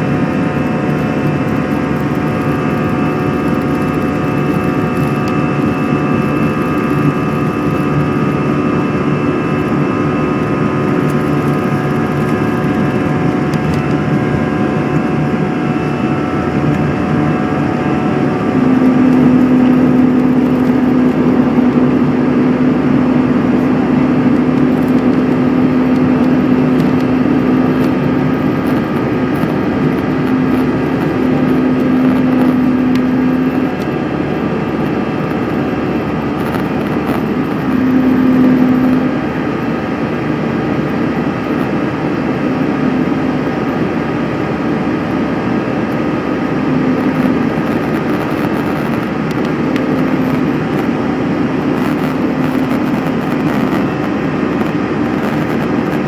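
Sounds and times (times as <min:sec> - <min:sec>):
jet engine cabin rushing noise: 0:00.0 - 0:56.0
low engine hum: 0:00.0 - 0:56.0.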